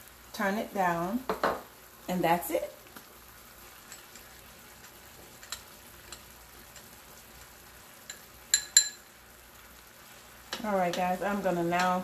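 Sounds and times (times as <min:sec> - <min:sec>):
meat frying in a skillet: 0:00.0 - 0:12.0.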